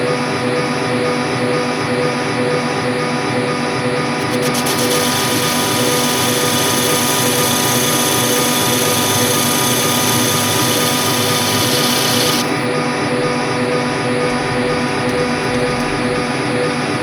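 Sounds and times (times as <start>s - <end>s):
machine tool humming: 0.1s - 17.0s.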